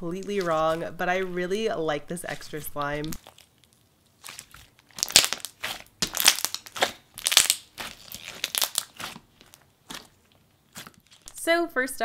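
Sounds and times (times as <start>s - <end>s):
slime squishing by hand: 0.0s - 11.4s.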